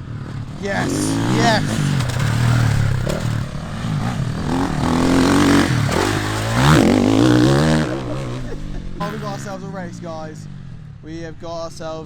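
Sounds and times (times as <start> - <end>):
motocross engine revving: 0.0 - 10.8.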